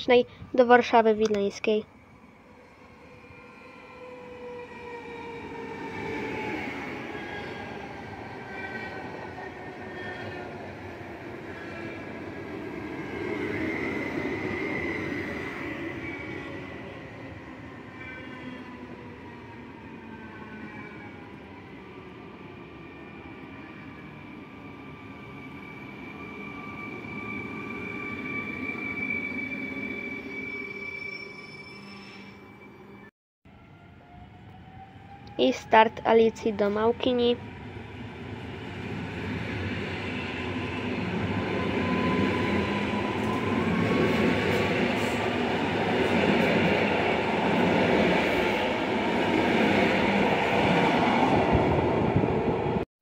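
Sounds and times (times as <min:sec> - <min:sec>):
electric train whine and rumble: 0:01.2 - 0:36.1, 0:37.4 - 0:52.8.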